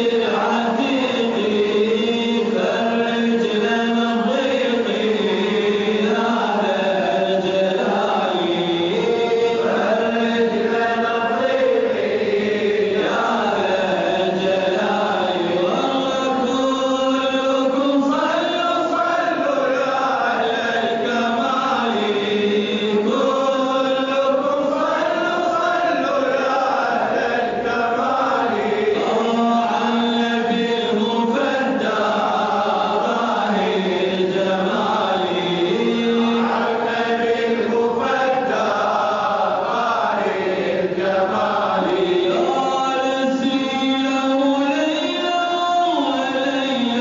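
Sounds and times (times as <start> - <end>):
man chanting a praise song: 0.0 - 47.0.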